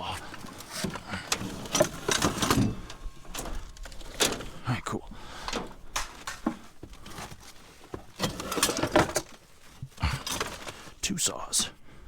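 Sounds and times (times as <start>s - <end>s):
junk clattering in a dumpster: 0.0s - 11.0s.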